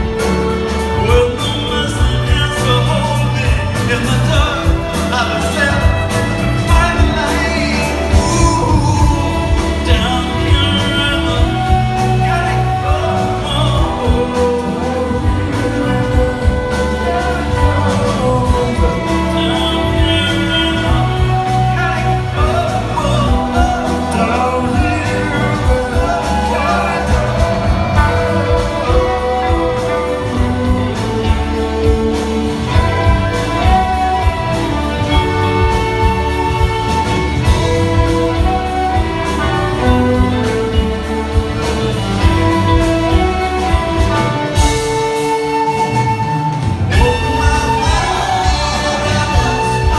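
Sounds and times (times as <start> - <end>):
bowed violins: 0.0 - 49.9
lead vocal singing: 0.0 - 49.9
live band playing: 0.0 - 49.9.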